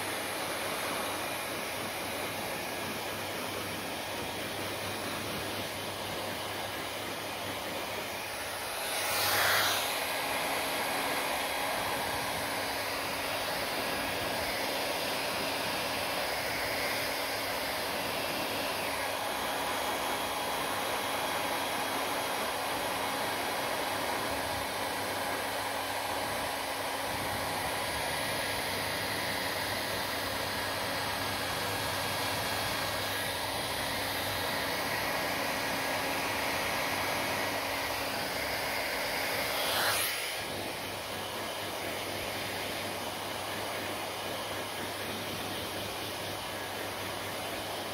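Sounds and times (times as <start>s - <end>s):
hair dryer blowing: 0.0s - 47.9s.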